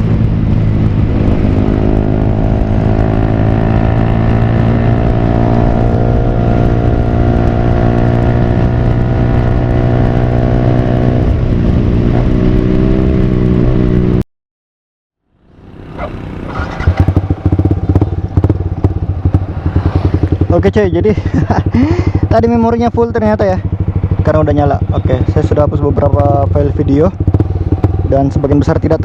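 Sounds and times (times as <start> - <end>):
motorcycle engine running: 0.0 - 14.2, 15.4 - 29.0.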